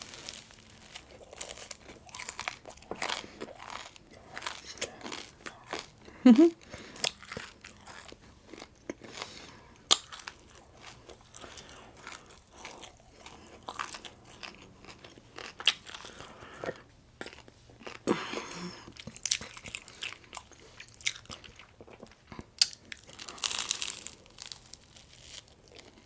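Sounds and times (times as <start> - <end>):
chewing and crunchy bites: 0.0 - 26.0.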